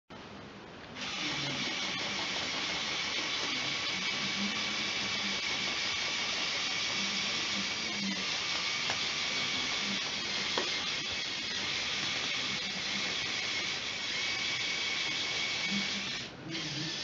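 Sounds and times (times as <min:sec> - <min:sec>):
toy motors and gears whirring: 0:01.0 - 0:17.0.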